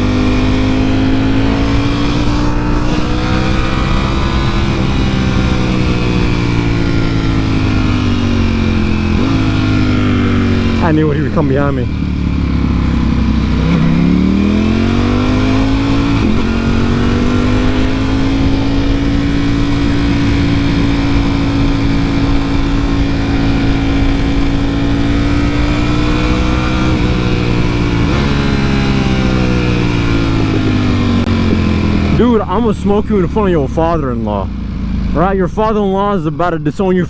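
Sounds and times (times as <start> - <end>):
wind rushing: 0.0 - 32.2
motorcycle engine revving: 0.0 - 36.2.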